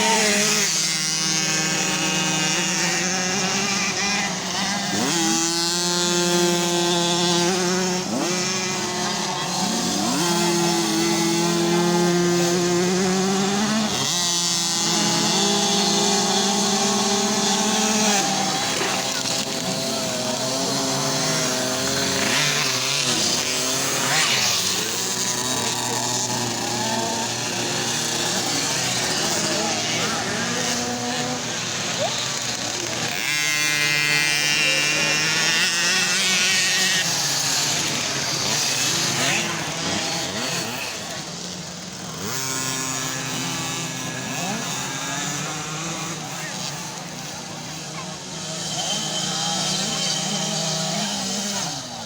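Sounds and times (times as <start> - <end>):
motorcycle engines revving: 0.0 - 52.0.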